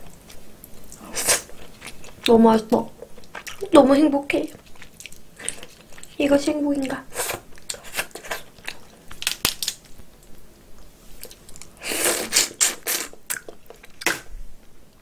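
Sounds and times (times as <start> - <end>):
wet chewing and mouth clicks: 0.0 - 3.8, 4.5 - 10.4, 11.2 - 14.3
crab shell crackling and squishing: 0.0 - 10.4, 11.2 - 14.3.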